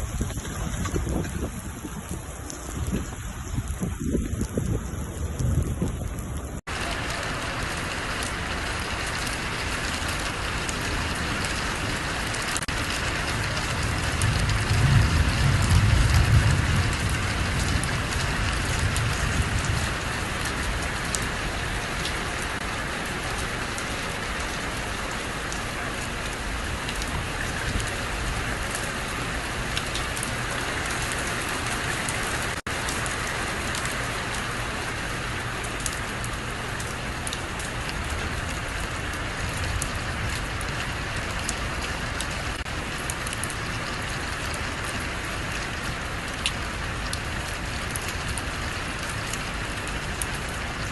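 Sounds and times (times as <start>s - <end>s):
heavy rain pattering: 0.0s - 50.9s.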